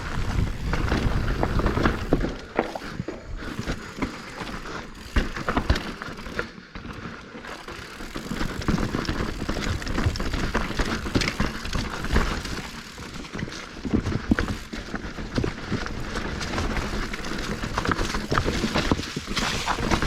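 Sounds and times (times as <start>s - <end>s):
bike clattering: 0.0s - 20.0s
tyres crunching over dirt: 0.0s - 20.0s.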